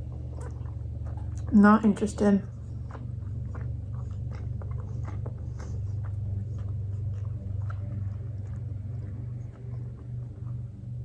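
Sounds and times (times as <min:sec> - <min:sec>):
person chewing food: 0:00.0 - 0:01.6, 0:02.4 - 0:11.0
steady low hum: 0:00.0 - 0:11.0.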